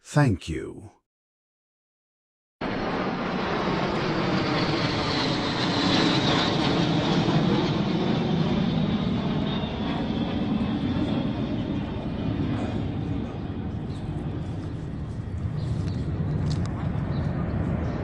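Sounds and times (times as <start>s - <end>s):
jet engine rumble with high whine: 2.7s - 18.0s.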